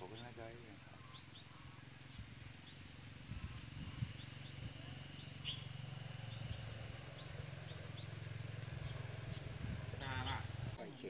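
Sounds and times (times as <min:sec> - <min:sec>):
bird chirps: 0:00.0 - 0:10.8
steady low hum: 0:00.0 - 0:10.8
high insect buzz: 0:01.2 - 0:10.8.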